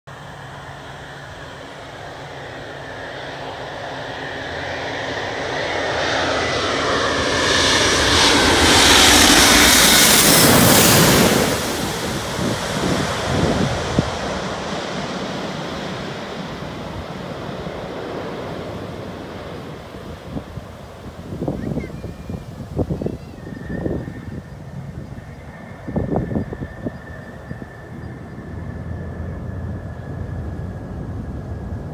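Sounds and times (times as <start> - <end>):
jet airliner passing overhead: 0.1 - 31.9.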